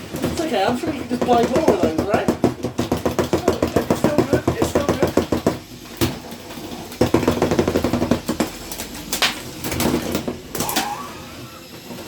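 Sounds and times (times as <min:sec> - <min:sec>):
plastic bricks knocking: 0:00.0 - 0:10.9.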